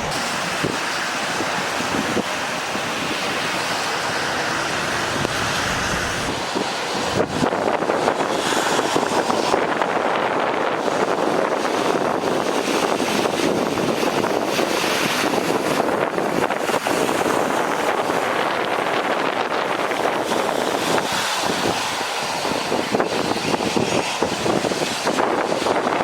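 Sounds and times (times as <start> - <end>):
water washing: 0.0 - 26.0
wind buffeting microphone: 0.0 - 26.0.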